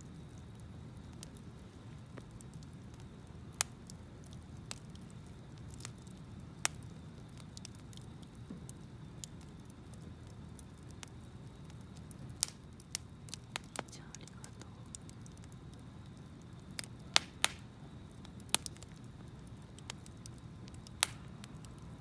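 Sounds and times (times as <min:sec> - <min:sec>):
campfire crackling: 0:00.0 - 0:22.0
sharp pops of fire: 0:00.0 - 0:22.0.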